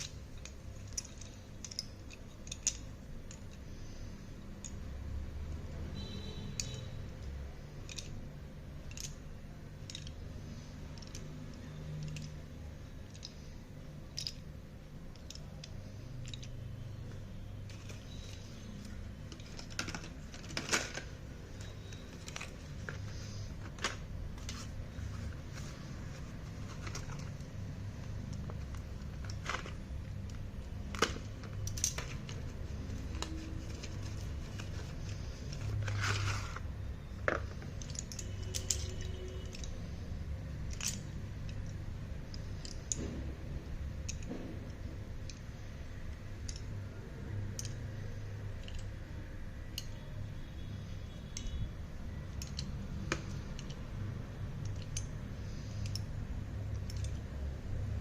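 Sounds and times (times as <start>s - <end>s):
parcel clicks and crinkles: 0.0s - 58.0s.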